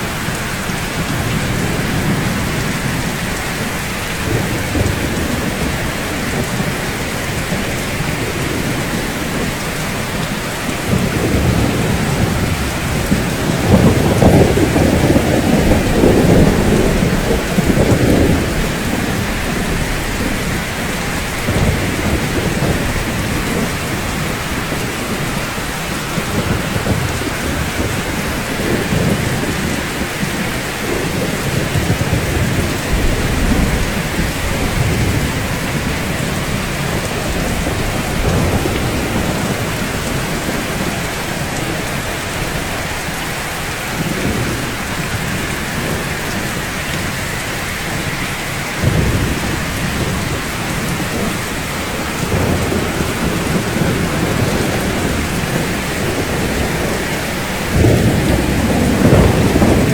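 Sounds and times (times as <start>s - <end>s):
rain falling: 0.0s - 59.9s
thunder rumbling: 0.0s - 59.9s.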